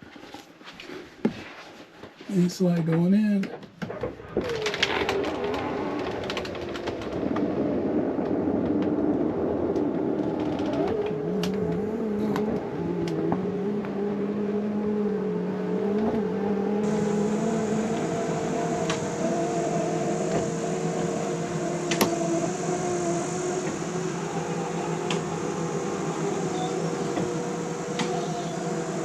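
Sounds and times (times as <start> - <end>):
whirring motor hum: 3.9 - 29.0.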